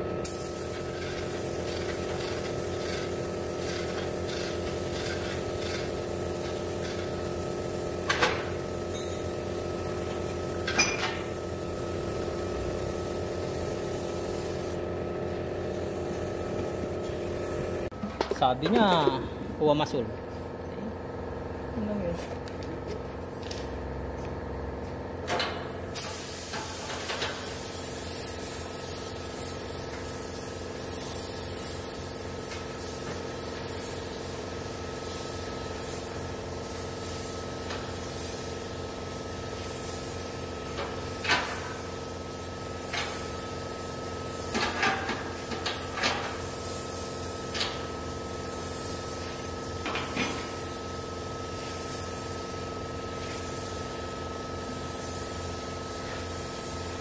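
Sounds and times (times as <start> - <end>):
spray gun hissing: 0.2 - 10.6, 11.2 - 17.9, 25.8 - 57.0.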